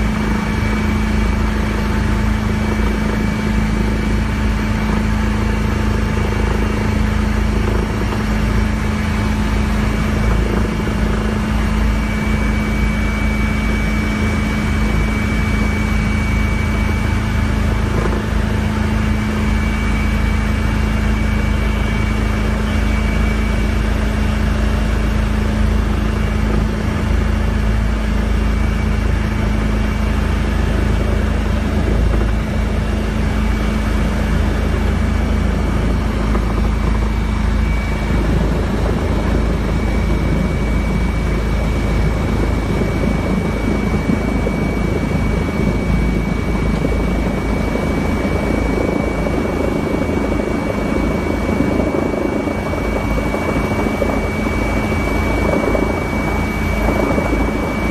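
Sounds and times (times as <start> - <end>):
helicopter rotor and engine noise: 0.0 - 57.9.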